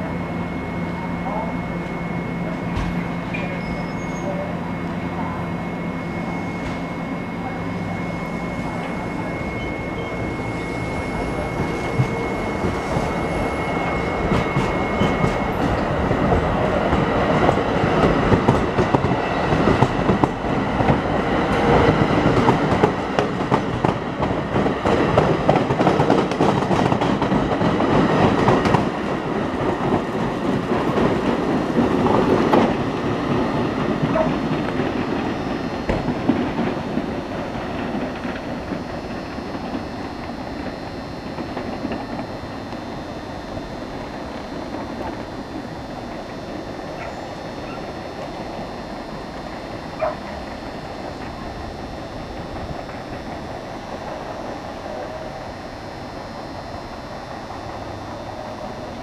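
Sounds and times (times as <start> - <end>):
steady high tone: 0.0 - 59.0.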